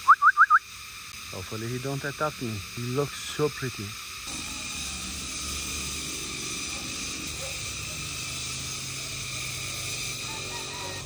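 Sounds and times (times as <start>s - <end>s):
hissing outdoor ambience: 0.0s - 11.0s.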